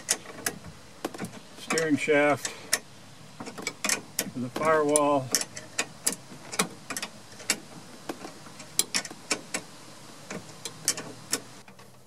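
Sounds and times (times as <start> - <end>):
wrench clicking on bolts: 0.0 - 12.0.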